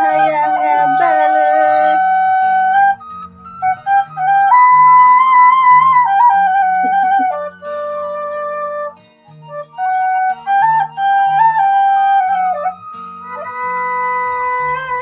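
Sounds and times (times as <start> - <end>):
bamboo flute melody: 0.0 - 15.0
low steady accompaniment: 0.0 - 15.0.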